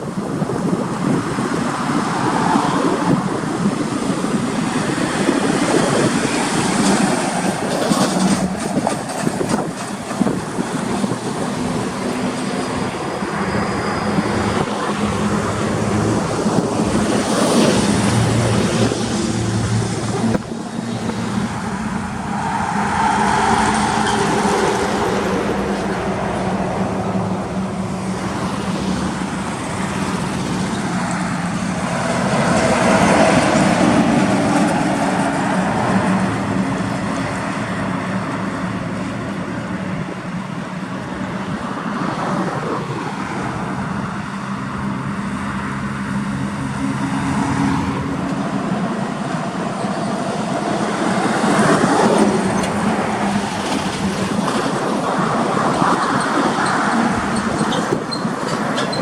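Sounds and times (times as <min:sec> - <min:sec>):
heavy truck running: 0:00.0 - 0:59.0
road traffic noise: 0:00.0 - 0:59.0.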